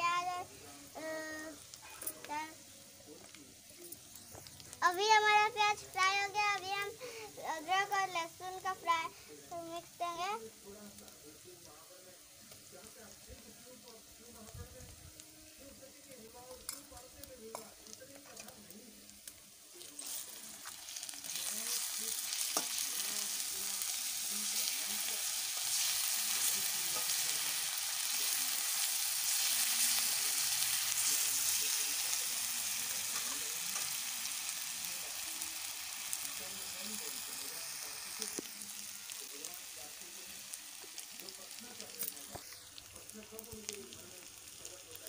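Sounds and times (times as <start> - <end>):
onion sizzling in hot oil: 0.0 - 45.0.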